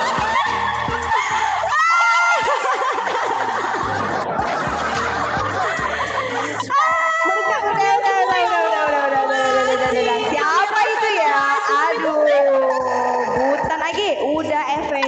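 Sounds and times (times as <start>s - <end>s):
women giggling: 0.0s - 13.7s.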